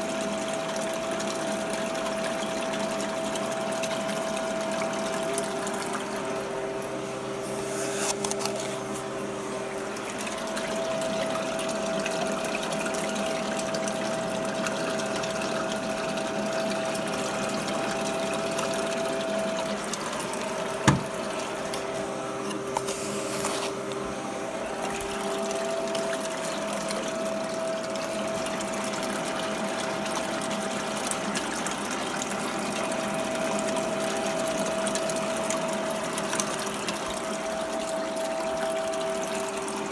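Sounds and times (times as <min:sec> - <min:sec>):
water running through sluice: 0:00.0 - 0:39.9.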